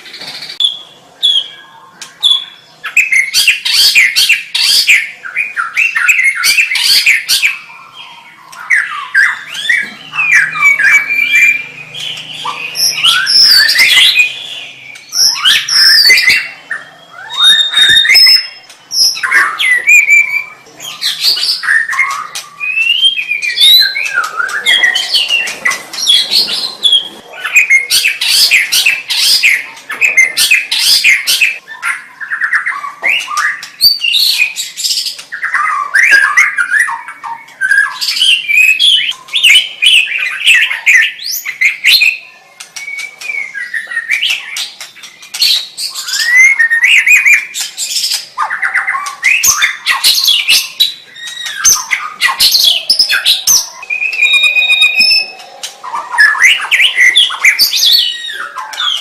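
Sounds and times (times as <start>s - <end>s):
songbird singing whistles and trills: 0.4s - 59.0s.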